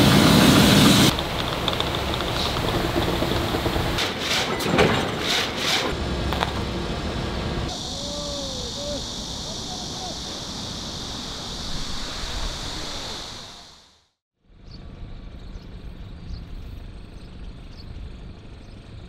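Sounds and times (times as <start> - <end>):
outdoor ambience with high hiss: 0.0 - 19.0.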